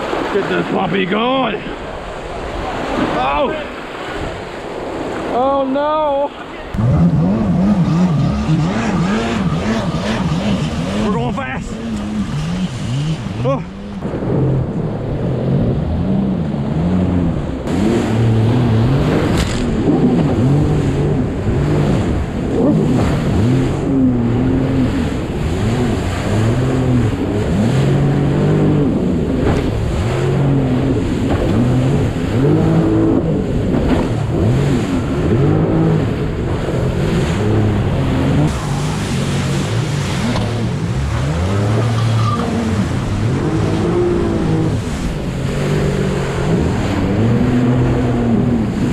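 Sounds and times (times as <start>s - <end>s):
jet ski engine revving: 0.0s - 48.9s
rush of wind and water: 0.0s - 48.9s.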